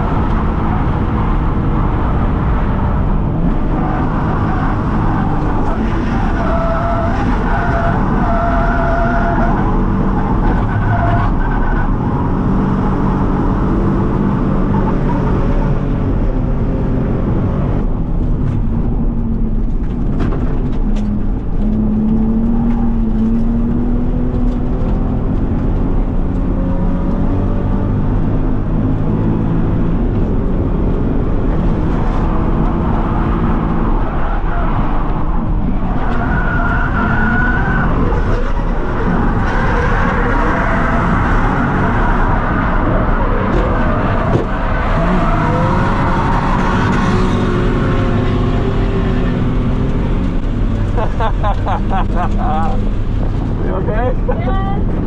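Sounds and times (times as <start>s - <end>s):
car engine revving: 0.0s - 55.0s
tyre and road noise: 0.0s - 55.0s.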